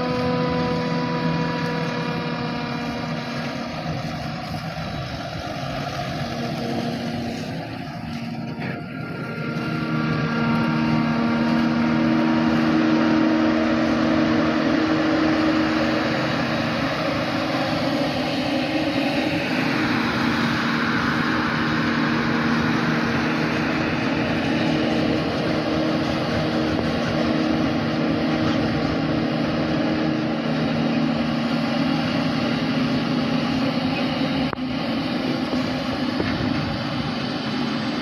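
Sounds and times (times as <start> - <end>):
harvester and tractor engines: 0.0 - 38.0.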